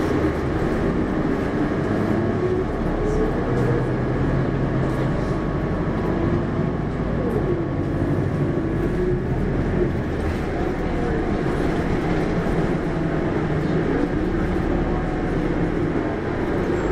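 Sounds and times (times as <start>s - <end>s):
bus diesel engine running: 0.0s - 16.9s.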